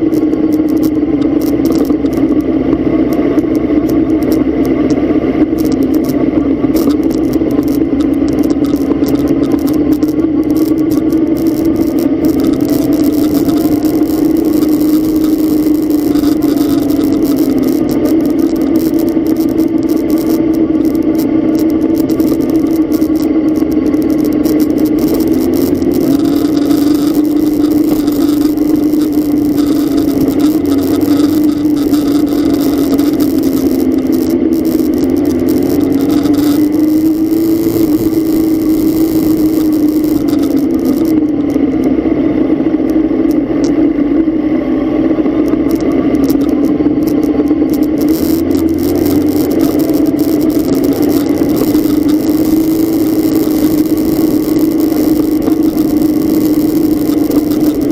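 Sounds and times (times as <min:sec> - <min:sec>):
vehicle engine droning: 0:00.0 - 0:57.9.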